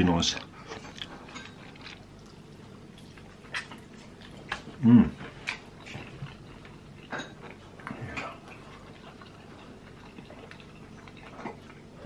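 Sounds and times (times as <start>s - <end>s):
person chewing: 0.6s - 12.0s.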